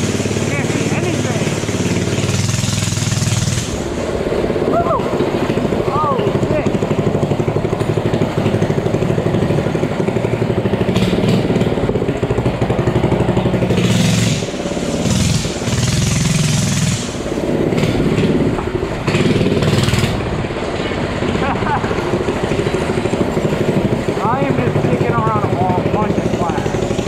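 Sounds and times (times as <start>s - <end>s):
small gas engine revving: 0.0s - 27.0s.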